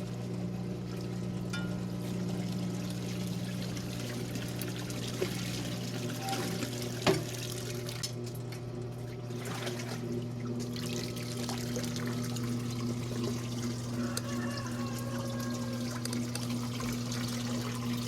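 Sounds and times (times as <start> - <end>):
water running and splashing: 2.0 - 8.0, 9.0 - 18.0.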